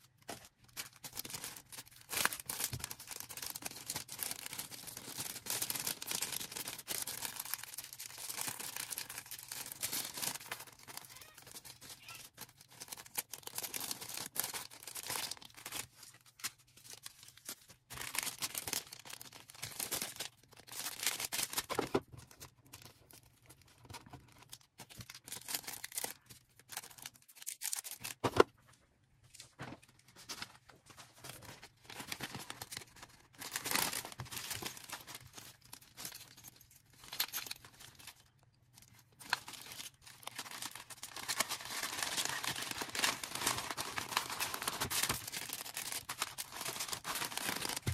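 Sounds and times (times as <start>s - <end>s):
plastic packaging rustling and tearing: 0.0s - 28.6s, 29.3s - 47.9s.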